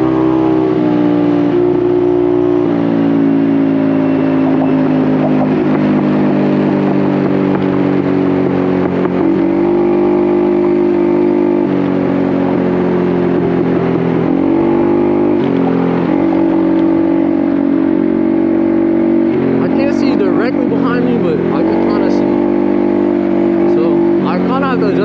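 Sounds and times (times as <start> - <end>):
small motorcycle engine running: 0.0 - 25.0.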